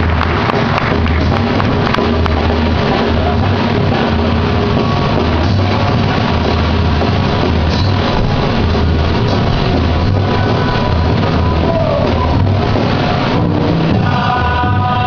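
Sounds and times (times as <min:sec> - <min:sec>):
drums: 0:00.0 - 0:15.0
heavy bass: 0:00.0 - 0:15.0.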